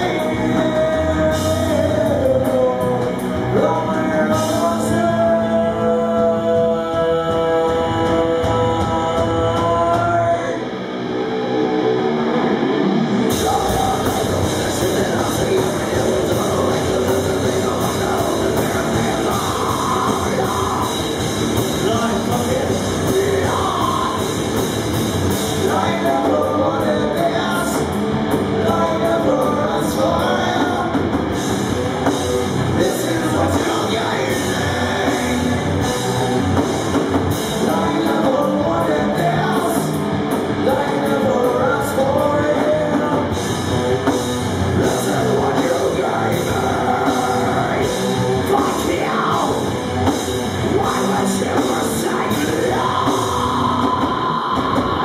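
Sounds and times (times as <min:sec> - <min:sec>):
person singing: 0:00.0 - 0:10.8, 0:13.2 - 0:31.3, 0:32.0 - 0:44.2, 0:44.8 - 0:55.0
distorted electric guitars: 0:00.0 - 0:55.0
rock band playing: 0:00.0 - 0:55.0.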